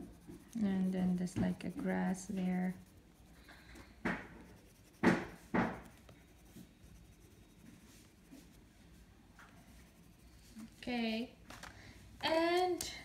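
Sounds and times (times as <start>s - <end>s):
oil pastel strokes on paper: 0.0s - 11.0s.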